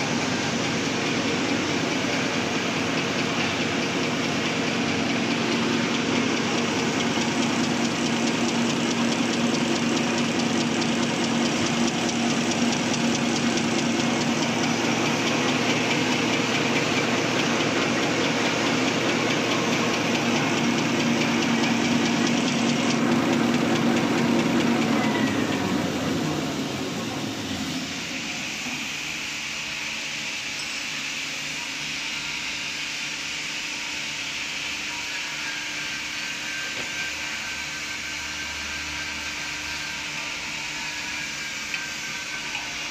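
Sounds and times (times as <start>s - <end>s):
folding machine hum and clatter: 0.0s - 42.9s
machine winding down: 0.0s - 42.9s.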